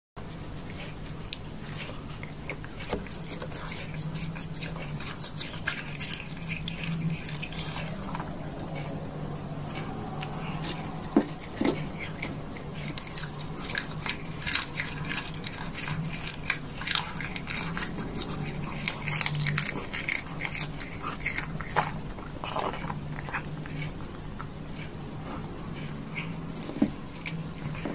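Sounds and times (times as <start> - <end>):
low steady hum: 0.2 - 27.9
cat crunching shrimp shells: 0.3 - 8.9, 9.7 - 24.5, 26.1 - 27.9.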